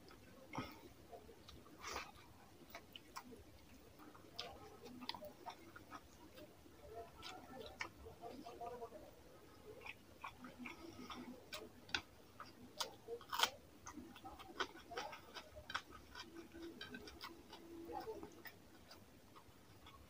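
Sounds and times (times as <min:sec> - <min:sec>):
mouth chewing wetly: 0:00.0 - 0:20.0.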